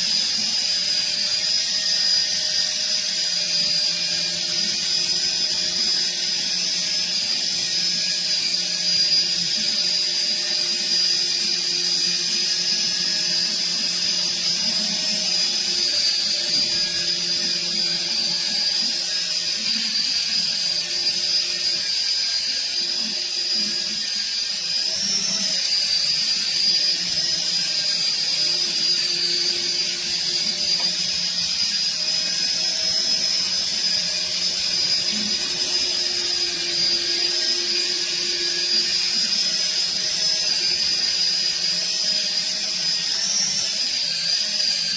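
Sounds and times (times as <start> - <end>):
toy helicopter motor whine: 0.0 - 44.9.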